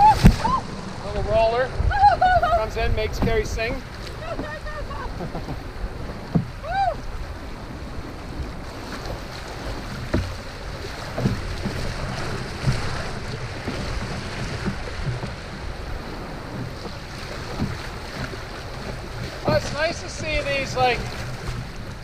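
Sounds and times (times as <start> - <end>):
water rushing and splashing: 0.0 - 22.0
wind on microphone: 0.0 - 22.0.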